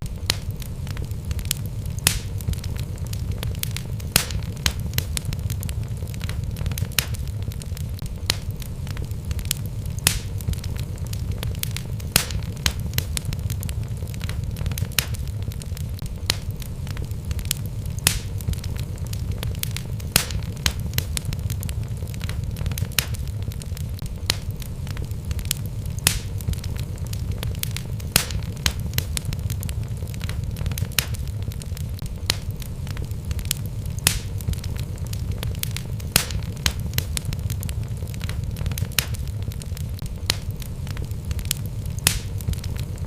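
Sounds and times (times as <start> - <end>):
logs crackling and popping: 0.0 - 43.0
wood fire rumble: 0.0 - 43.0.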